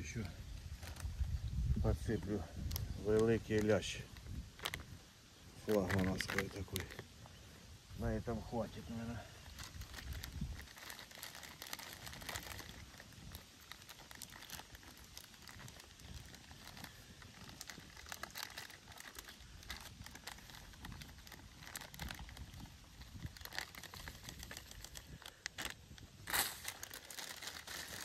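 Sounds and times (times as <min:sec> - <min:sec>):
groundbait rustling and crackling by hand: 0:00.0 - 0:28.0.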